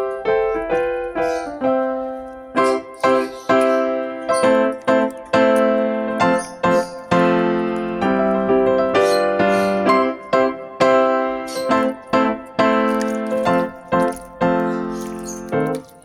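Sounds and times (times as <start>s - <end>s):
piano playing chords: 0.0s - 16.0s.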